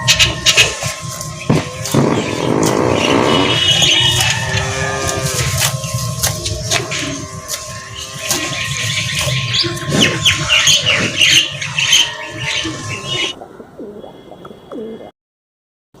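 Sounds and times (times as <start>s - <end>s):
birds chirping: 0.0s - 15.1s.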